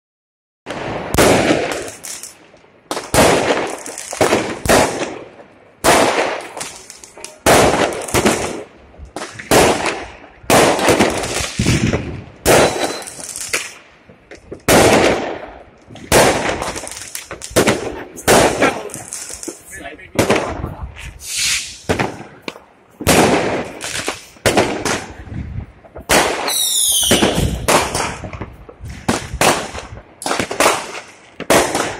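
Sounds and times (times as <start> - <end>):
fireworks exploding: 0.7 - 31.9.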